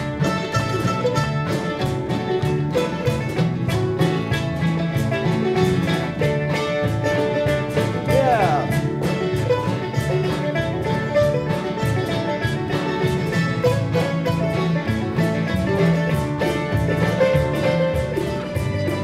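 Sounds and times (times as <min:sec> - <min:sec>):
bass and drums: 0:00.0 - 0:19.0
plucked guitar lead: 0:00.0 - 0:19.0.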